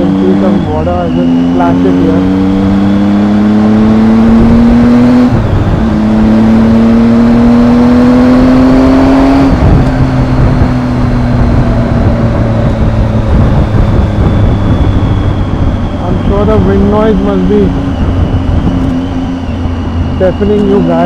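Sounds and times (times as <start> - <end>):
motorcycle engine shifting gears: 0.0 - 21.0
wind rushing over microphone: 0.0 - 21.0.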